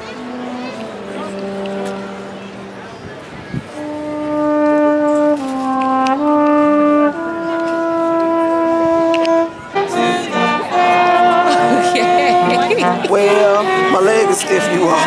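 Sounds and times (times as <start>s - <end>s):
trumpet playing slow melody: 0.0s - 15.0s.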